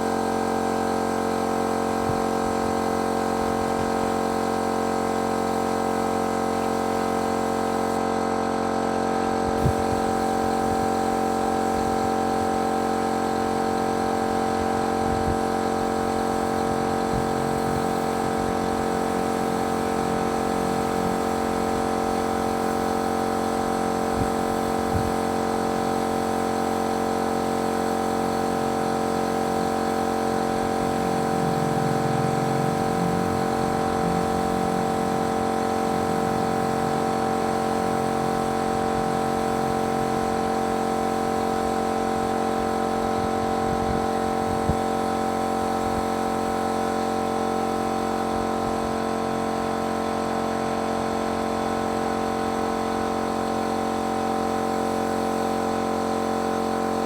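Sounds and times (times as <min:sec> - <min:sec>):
paint sprayer humming and hissing: 0:00.0 - 0:57.0.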